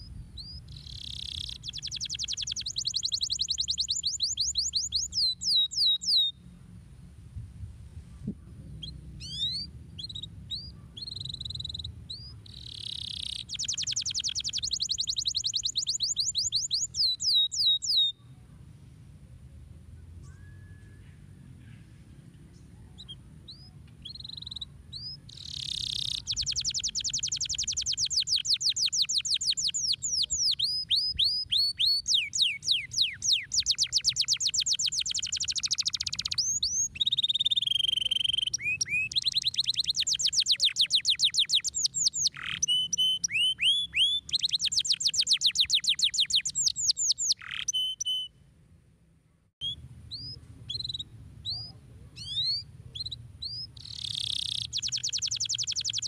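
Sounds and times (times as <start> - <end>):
canary chirps: 0.0 - 6.4, 8.8 - 18.6, 22.5 - 48.4, 49.6 - 56.0
canary singing trills: 0.0 - 6.4, 8.7 - 18.4, 22.6 - 48.4, 49.6 - 56.0.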